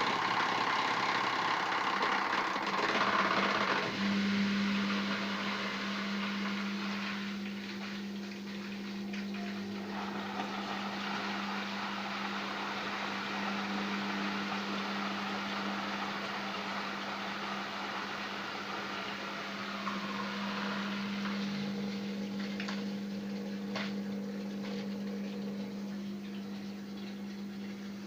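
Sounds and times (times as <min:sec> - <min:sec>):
washing machine humming: 0:00.0 - 0:28.0
water rushing: 0:03.5 - 0:28.0.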